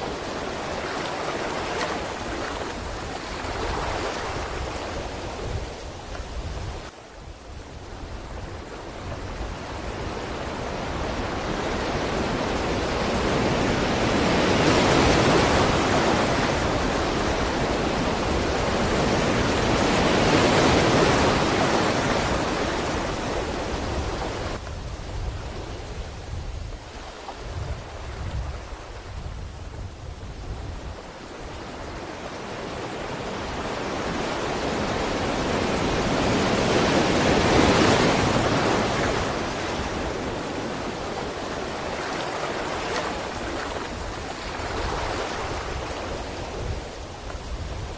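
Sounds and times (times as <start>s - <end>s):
ocean waves breaking: 0.0s - 7.2s, 8.0s - 29.6s, 30.3s - 47.9s.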